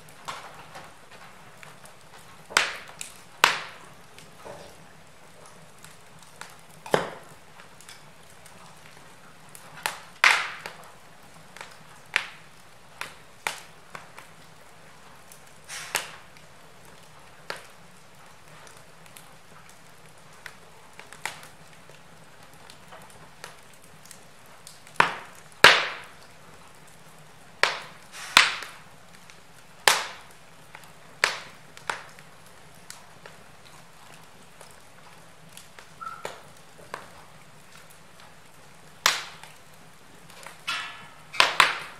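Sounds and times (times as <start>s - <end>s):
faint steady hiss: 0.0s - 41.9s
wood fire crackling and popping: 0.0s - 41.9s.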